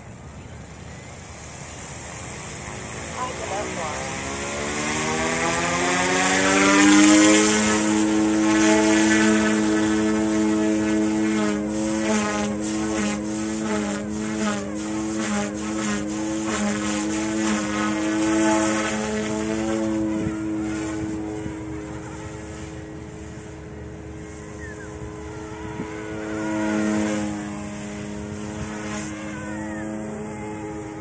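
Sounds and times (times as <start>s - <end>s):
toy helicopter motors whining: 0.0s - 31.0s.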